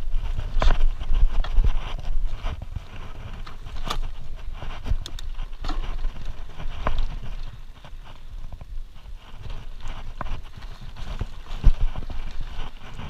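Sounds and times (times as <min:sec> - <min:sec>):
bike clacking and rattling: 0:00.0 - 0:13.0
bike tyres rumbling on dirt: 0:00.0 - 0:13.0.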